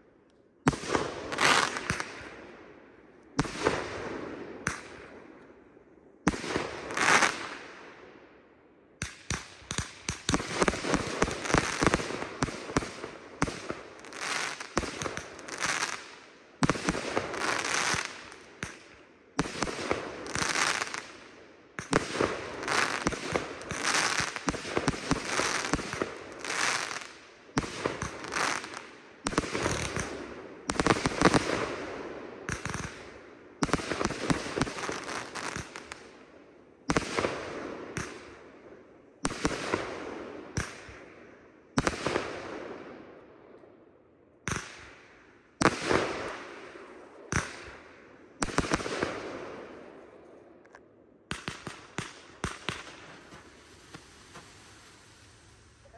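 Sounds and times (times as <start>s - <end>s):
fireworks bangs and crackling: 0.6s - 2.6s, 3.3s - 5.3s, 6.2s - 8.0s, 9.0s - 43.0s, 44.5s - 55.9s.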